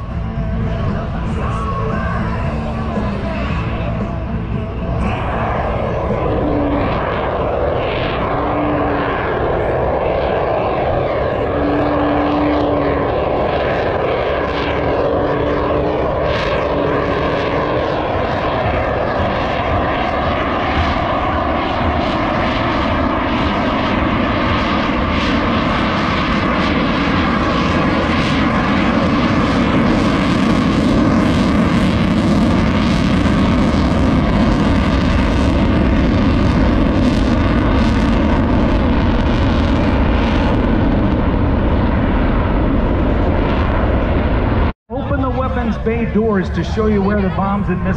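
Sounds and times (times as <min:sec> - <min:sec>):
jet flying past: 0:00.0 - 0:47.9.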